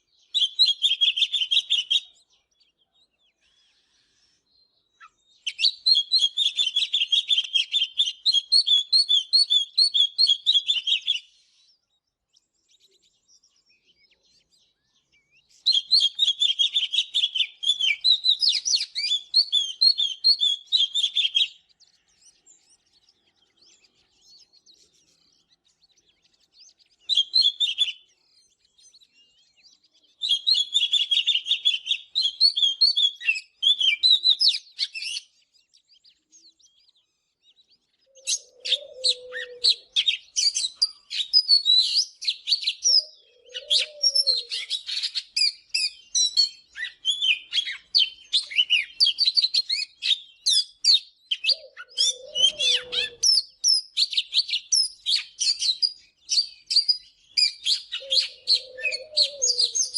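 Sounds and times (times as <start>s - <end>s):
bird singing whistled phrases: 0.0s - 11.8s, 13.0s - 59.9s.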